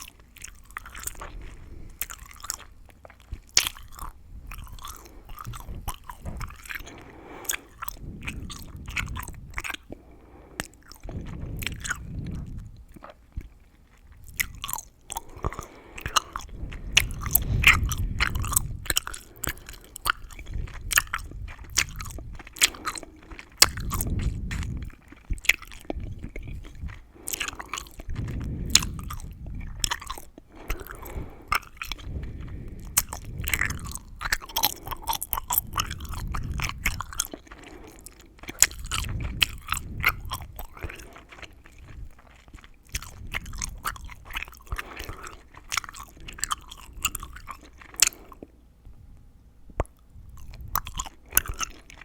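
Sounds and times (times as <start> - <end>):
gum chewing: 0.0 - 49.0, 49.7 - 52.0.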